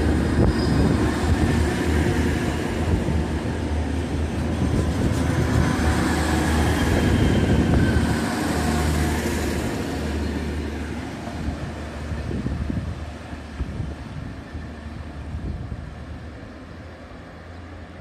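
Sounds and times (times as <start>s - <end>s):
diesel train accelerating: 0.0s - 18.0s.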